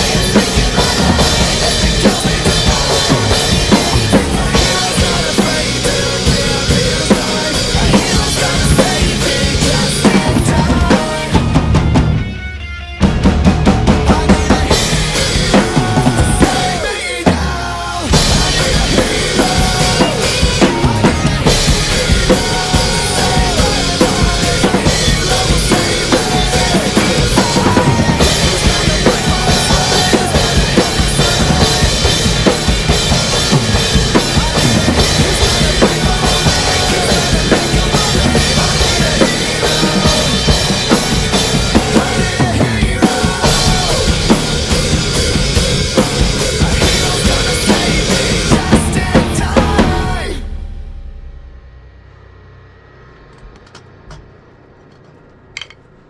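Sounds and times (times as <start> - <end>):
rock backing track: 0.0 - 51.6
rock drum kit played hard: 0.0 - 52.1.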